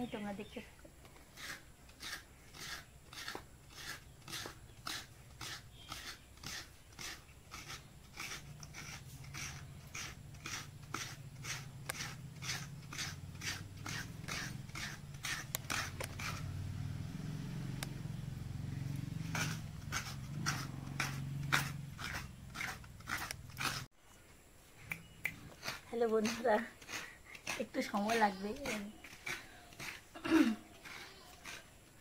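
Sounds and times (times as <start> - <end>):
coconut scraper strokes: 0.5 - 23.9, 25.0 - 32.0.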